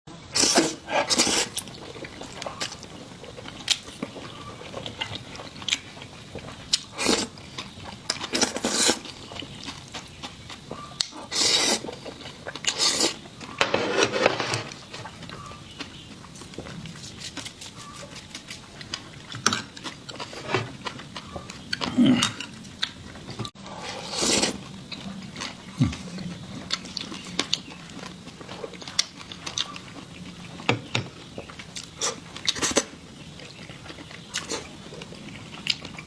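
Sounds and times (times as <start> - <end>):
crunchy chewing: 0.4 - 36.0.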